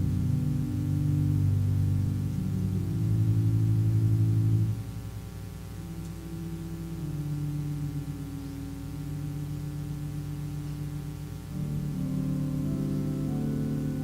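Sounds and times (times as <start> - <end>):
slow keyboard chords: 0.0 - 14.0.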